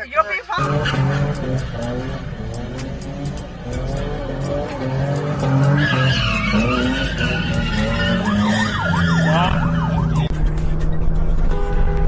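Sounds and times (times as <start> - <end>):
vehicle noise: 0.0 - 12.0
car tyres squealing: 0.5 - 11.7.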